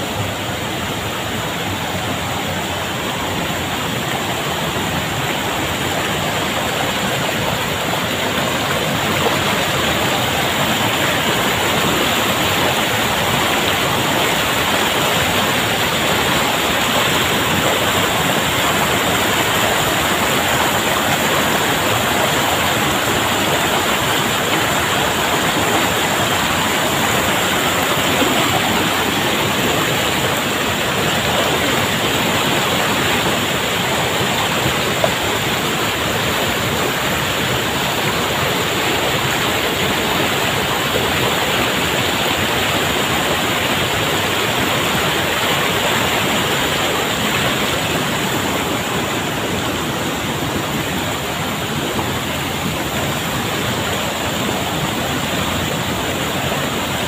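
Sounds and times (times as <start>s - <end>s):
river rapids over rocks: 0.0s - 57.0s
small waterfall pouring into pool: 0.1s - 57.0s.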